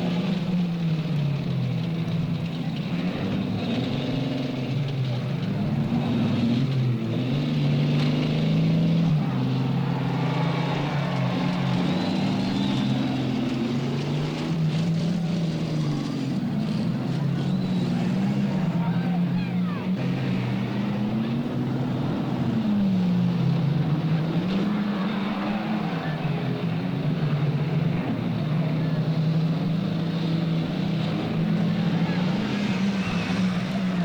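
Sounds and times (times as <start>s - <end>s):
stock car engines revving: 0.0s - 34.0s.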